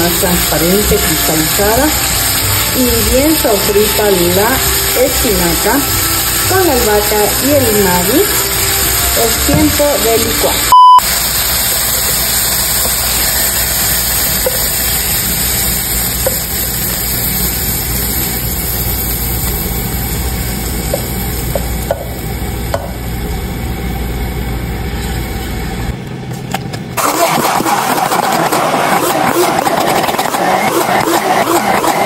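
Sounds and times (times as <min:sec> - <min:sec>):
stick blender running: 0:00.0 - 0:22.0, 0:27.0 - 0:32.0
loud hum and hiss: 0:00.0 - 0:32.0.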